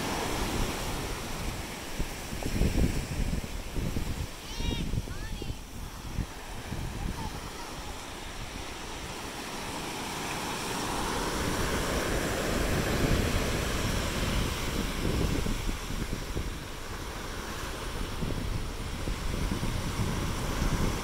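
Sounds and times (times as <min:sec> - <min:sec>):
ocean surf washing onto beach: 0:00.0 - 0:21.0
wind rumbling on microphone: 0:00.0 - 0:21.0.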